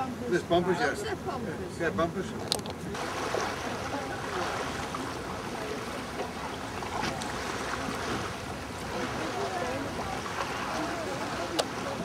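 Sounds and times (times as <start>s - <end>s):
choppy water: 0.0s - 12.0s.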